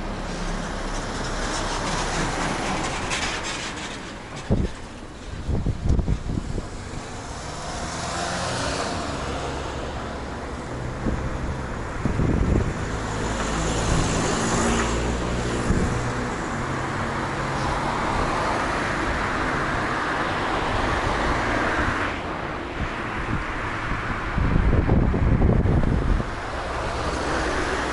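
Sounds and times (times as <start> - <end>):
cars going by: 0.0 - 27.9
wind buffeting microphone: 0.9 - 27.9.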